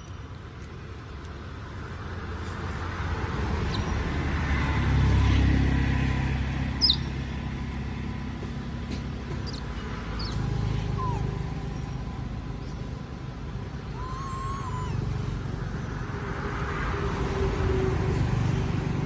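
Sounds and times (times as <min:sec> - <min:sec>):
vehicle passing by: 0:01.4 - 0:19.0.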